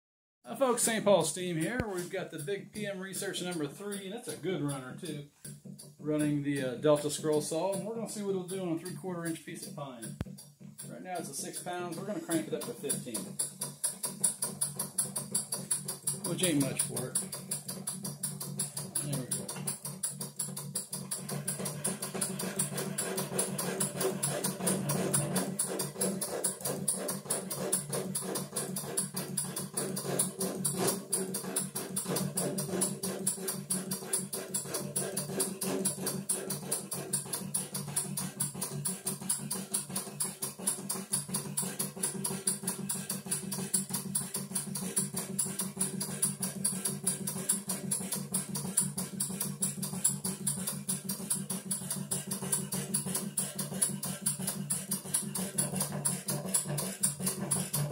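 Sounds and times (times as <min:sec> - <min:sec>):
steam engine and saw clatter: 0:00.5 - 0:57.9.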